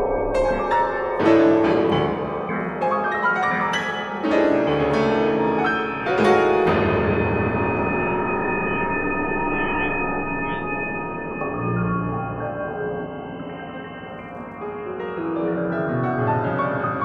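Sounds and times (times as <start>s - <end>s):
grand piano notes and chords: 0.0s - 17.0s.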